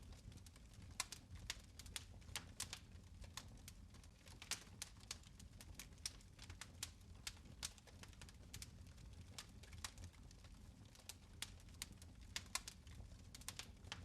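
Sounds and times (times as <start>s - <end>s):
fire crackling in a fireplace: 0.0s - 14.0s.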